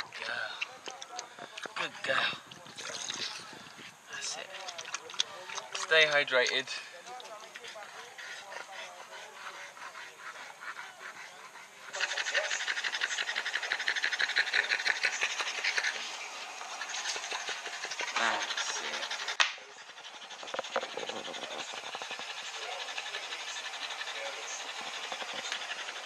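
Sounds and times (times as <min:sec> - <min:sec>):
dog panting fast: 0:04.6 - 0:26.0.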